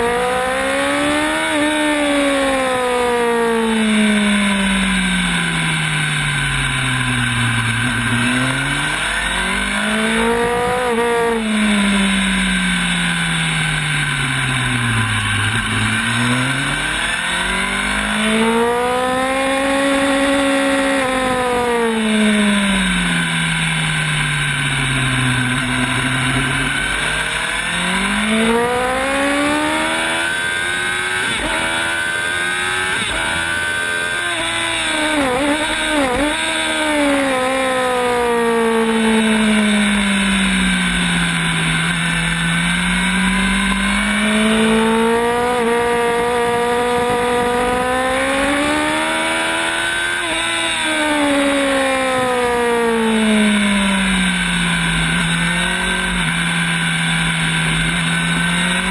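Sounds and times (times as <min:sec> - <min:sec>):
gear changes: 0:00.0 - 0:58.9
motorcycle engine revving: 0:00.0 - 0:58.9.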